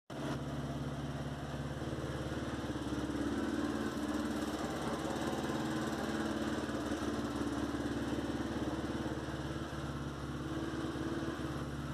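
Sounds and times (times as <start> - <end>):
motorcycle engine idling: 0.1 - 11.9.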